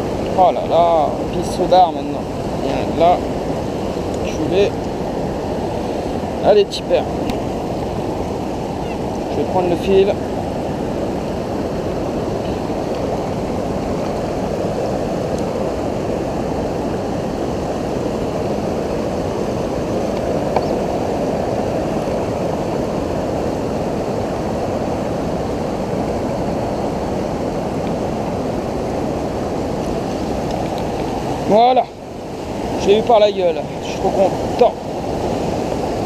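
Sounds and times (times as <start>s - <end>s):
river water over rapids: 0.0s - 36.0s.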